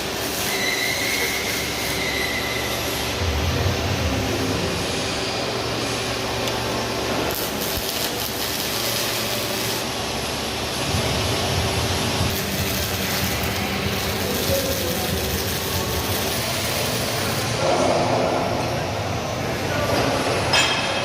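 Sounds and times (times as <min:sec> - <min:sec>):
machinery running steadily: 0:00.0 - 0:21.0.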